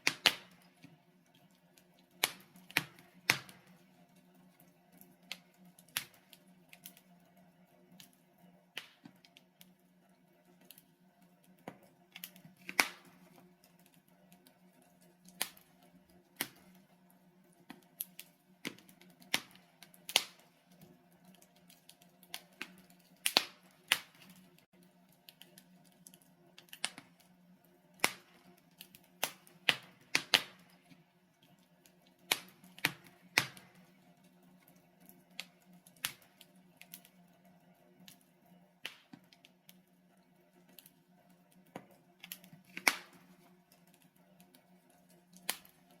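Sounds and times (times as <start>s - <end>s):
logs crackling and popping: 0.0s - 46.0s.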